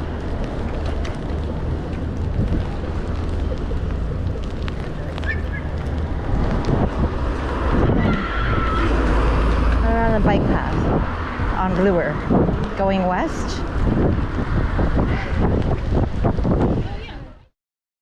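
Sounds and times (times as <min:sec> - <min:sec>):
street traffic: 0:00.0 - 0:17.5
wind buffeting microphone: 0:00.0 - 0:17.5.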